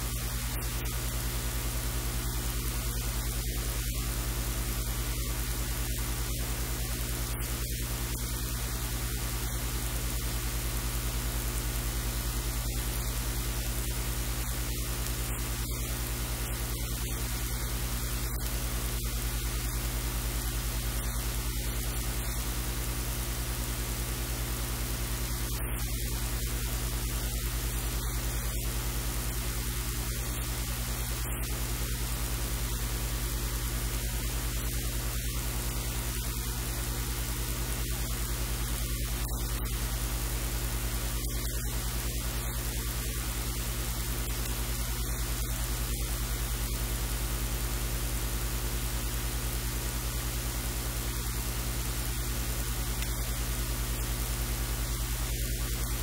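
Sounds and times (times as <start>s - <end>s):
low electrical hum: 0.0s - 56.0s
steady hiss: 0.0s - 56.0s.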